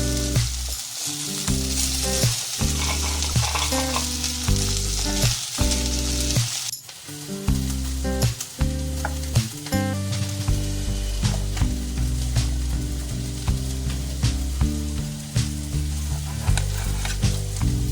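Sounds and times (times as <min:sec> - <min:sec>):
background music of held notes: 0:00.0 - 0:17.9
food sizzling in hot oil: 0:00.0 - 0:17.9.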